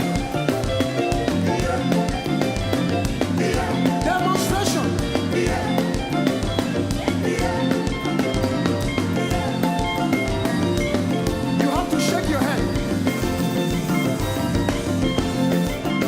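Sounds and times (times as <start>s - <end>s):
drum kit dance beat: 0.0s - 16.0s
live band playing gospel music: 0.0s - 16.0s.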